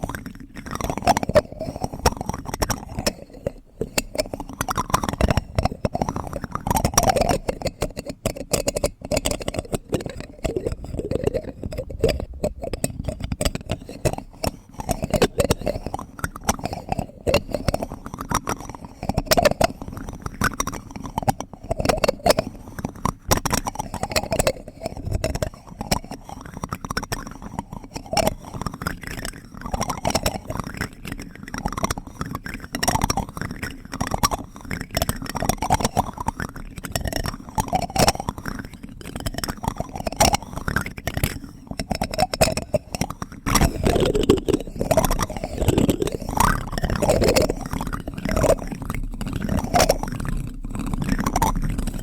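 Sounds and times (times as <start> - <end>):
plastic spoon clicks and scrapes: 0.0 - 52.0.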